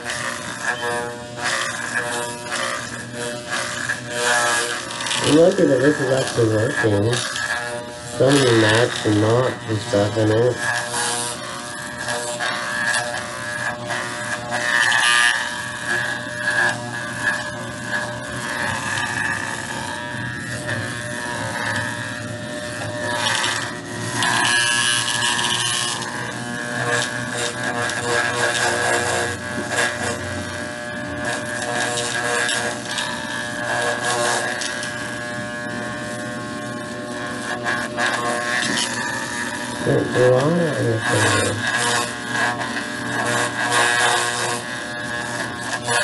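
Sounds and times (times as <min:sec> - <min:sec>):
electric clippers buzzing: 0:00.0 - 0:46.0.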